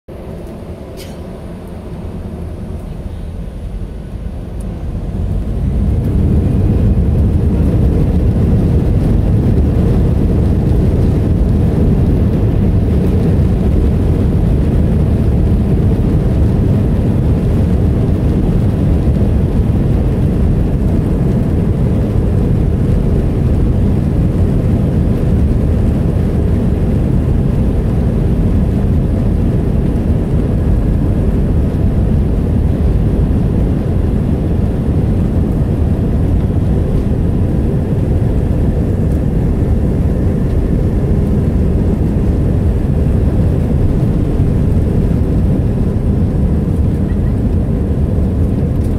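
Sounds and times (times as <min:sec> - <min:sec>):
jet engines rumbling: 0:00.1 - 0:48.9.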